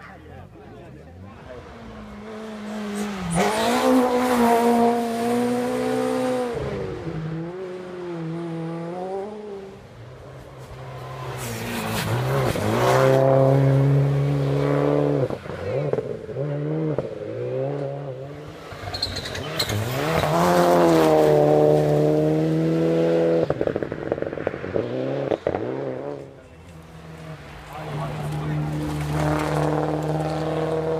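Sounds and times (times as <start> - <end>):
rally car engine revving: 1.3 - 30.9.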